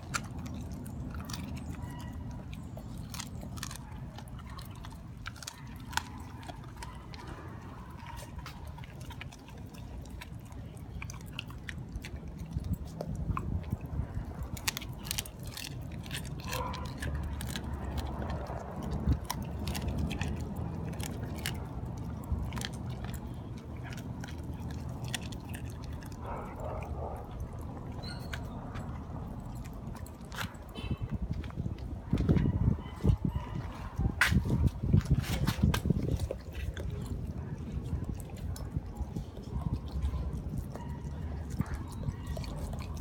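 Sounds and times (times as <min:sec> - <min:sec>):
dogs chewing wet food: 0:00.0 - 0:43.0.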